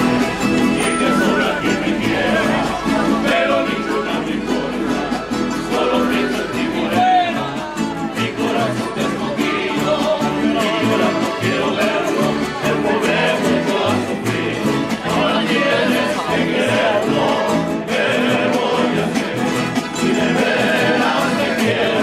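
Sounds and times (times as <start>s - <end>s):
bass line: 0.0s - 22.0s
person singing: 0.0s - 22.0s
strummed guitars: 0.0s - 22.0s.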